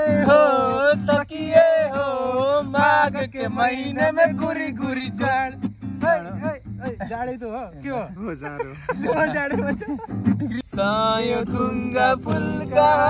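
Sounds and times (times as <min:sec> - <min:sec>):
man singing: 0:00.0 - 0:07.0, 0:09.0 - 0:13.0
strummed acoustic guitar: 0:00.0 - 0:08.1, 0:08.7 - 0:13.0.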